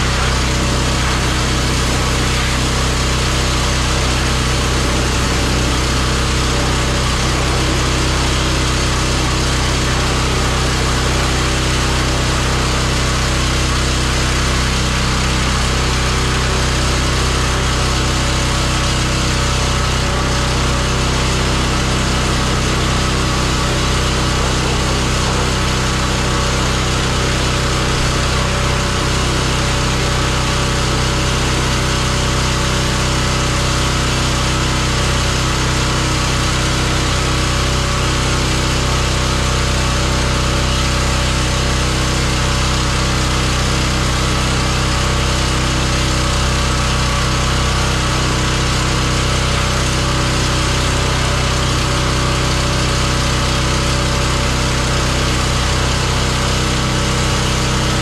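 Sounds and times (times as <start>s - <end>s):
high-pressure water spray hissing: 0.0s - 46.8s
pressure washer engine humming: 0.0s - 58.0s.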